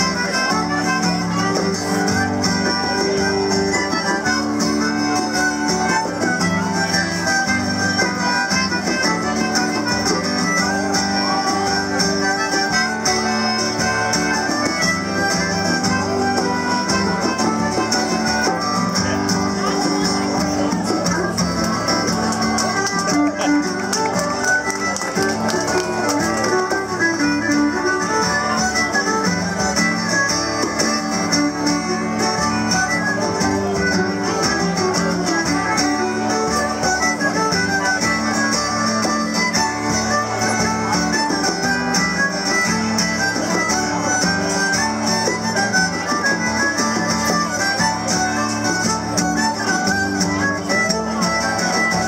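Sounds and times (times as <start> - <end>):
folk dance tune: 0.0 - 52.0.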